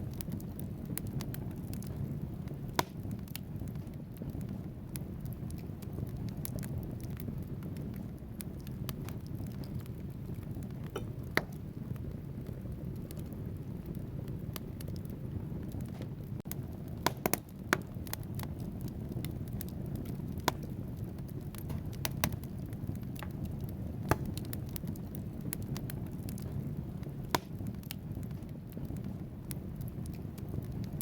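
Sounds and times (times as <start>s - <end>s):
logs crackling and popping: 0.0s - 31.0s
wood fire burning: 0.0s - 31.0s.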